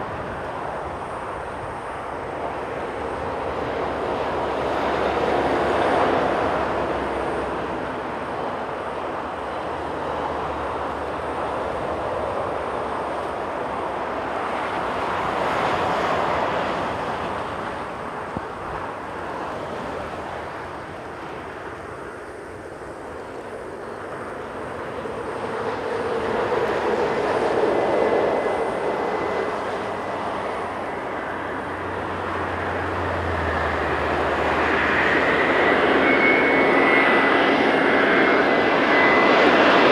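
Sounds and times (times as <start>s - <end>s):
jet engine rumble with hiss: 0.0s - 39.9s.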